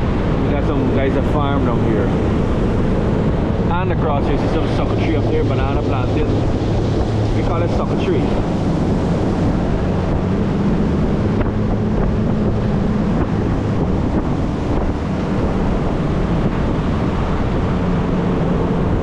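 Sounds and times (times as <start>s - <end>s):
motorboat engine humming: 0.0s - 19.0s
wind on microphone: 0.0s - 19.0s.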